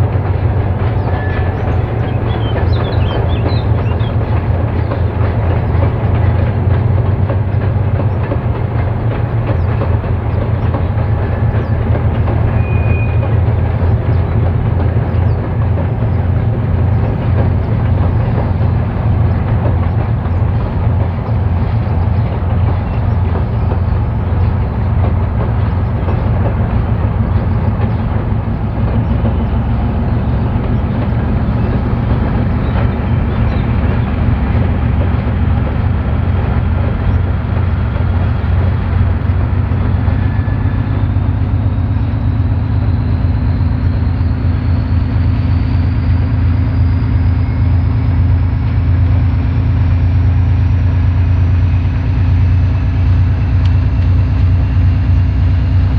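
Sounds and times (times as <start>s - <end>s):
diesel locomotive engine throbbing: 0.0s - 55.9s.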